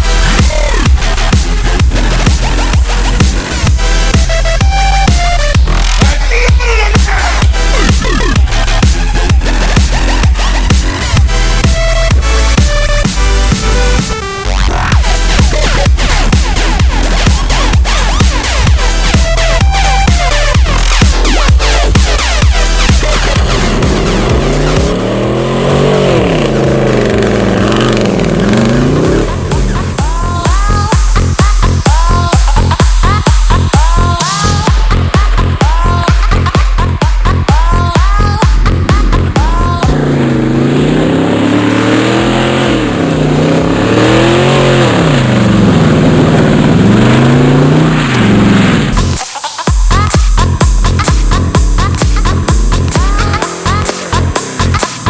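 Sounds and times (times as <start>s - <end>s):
car engine revving: 0.0s - 49.2s, 49.9s - 55.0s
electronic dance beat: 0.0s - 55.0s.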